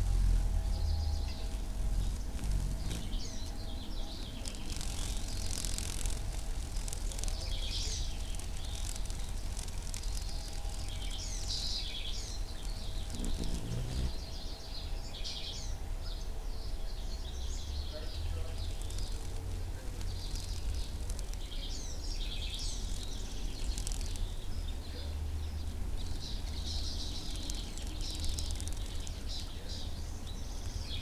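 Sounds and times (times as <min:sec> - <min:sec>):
birds chirping and singing: 0:00.0 - 0:31.0
low outdoor rumble: 0:00.0 - 0:31.0.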